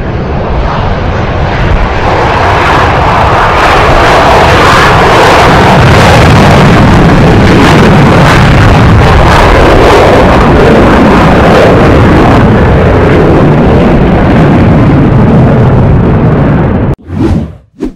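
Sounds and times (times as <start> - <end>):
jet engines roaring at take-off: 0.0 - 17.6.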